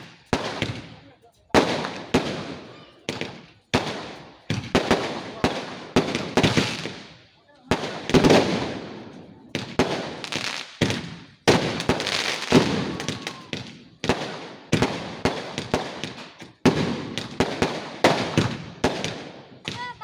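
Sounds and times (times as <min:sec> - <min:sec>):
fireworks bangs with echo: 0:00.0 - 0:20.0
fireworks crackling pops: 0:00.0 - 0:20.0.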